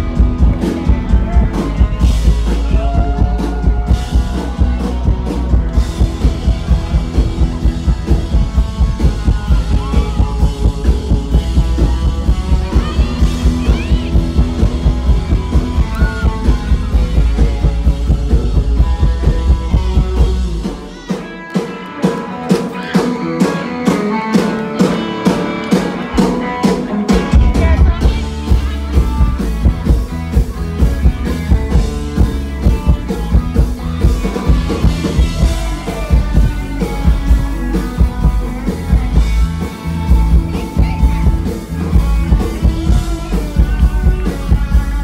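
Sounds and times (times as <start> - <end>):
deep bass: 0.0 - 21.1, 27.1 - 45.0
drum kit beat: 0.0 - 45.0
electric guitar: 0.0 - 45.0.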